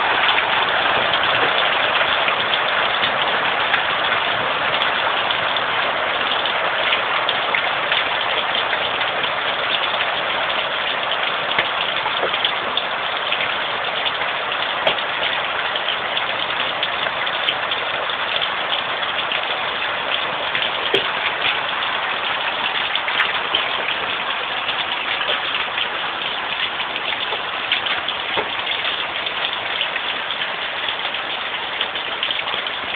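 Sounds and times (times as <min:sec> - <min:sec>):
heavy rain: 0:00.0 - 0:32.9.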